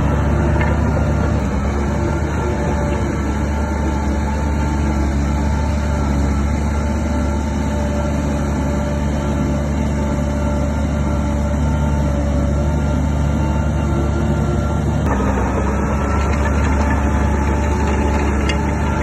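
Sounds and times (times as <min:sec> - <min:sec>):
bulldozer diesel engine drone: 0:00.0 - 0:19.0.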